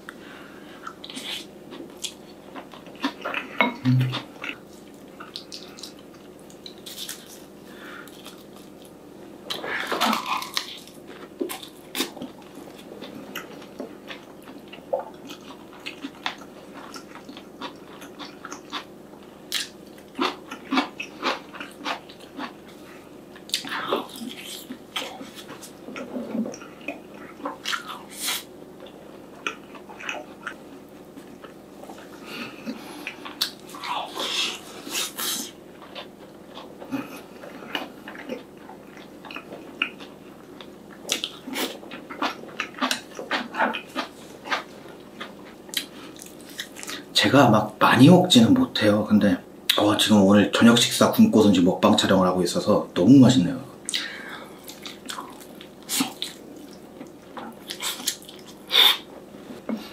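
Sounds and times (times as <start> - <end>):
man chewing food: 0.0 - 47.1, 53.8 - 59.9.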